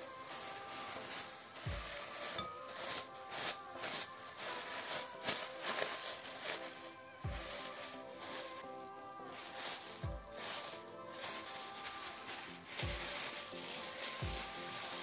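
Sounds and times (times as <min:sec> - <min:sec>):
background music: 0:00.0 - 0:15.0
plastic bag crinkling: 0:00.0 - 0:15.0.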